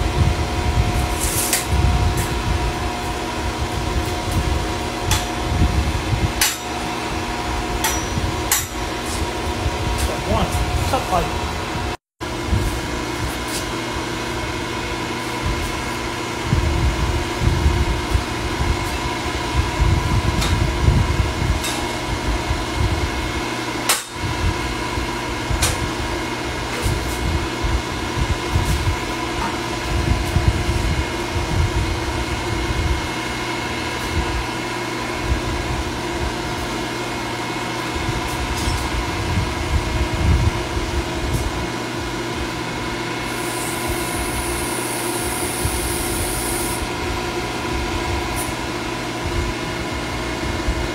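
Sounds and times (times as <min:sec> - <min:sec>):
machine hum with low rumble: 0:00.0 - 0:50.9.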